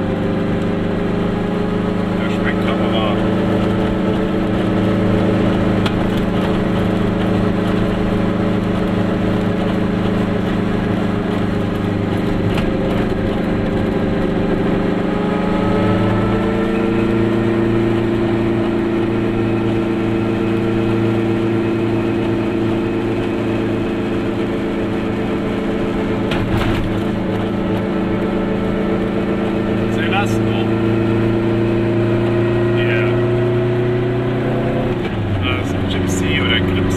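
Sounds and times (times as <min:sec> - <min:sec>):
road noise: 0:00.0 - 0:36.9
two-stroke engine running: 0:00.0 - 0:36.9.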